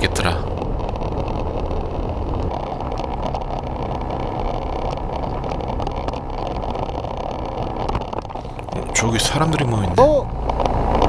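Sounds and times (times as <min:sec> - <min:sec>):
motorbike engine running: 0:00.0 - 0:11.0
rumble from rough road: 0:00.0 - 0:11.0.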